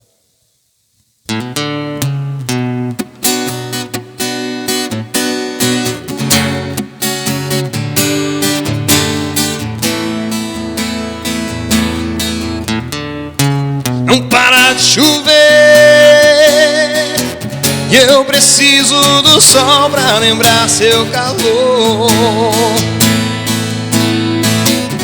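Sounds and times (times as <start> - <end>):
acoustic guitar strumming: 1.3 - 25.0.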